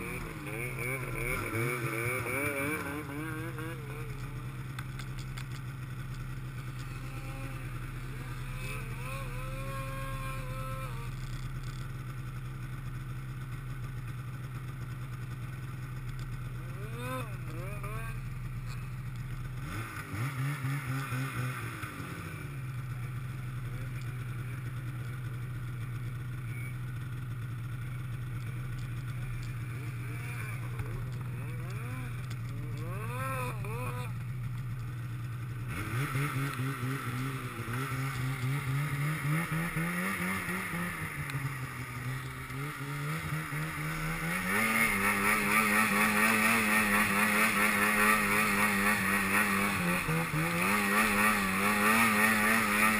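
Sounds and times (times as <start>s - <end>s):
distant snowmobile revving: 0.0s - 52.9s
snowmobile engine idling and revving: 0.0s - 52.9s.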